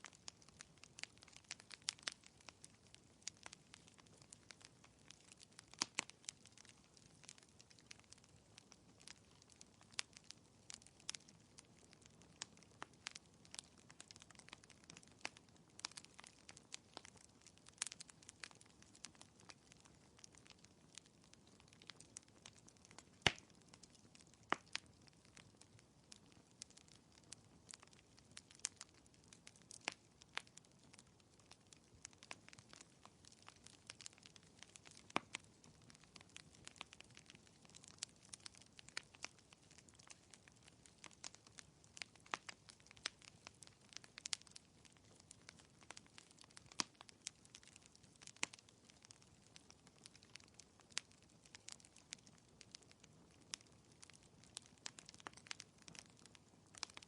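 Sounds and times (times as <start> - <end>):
faint low hiss: 0.0 - 57.0
wood fire crackling: 0.0 - 57.0.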